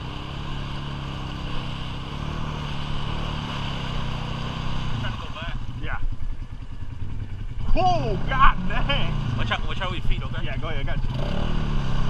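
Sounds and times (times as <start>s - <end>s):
atv engine running at low revs: 0.0s - 12.0s.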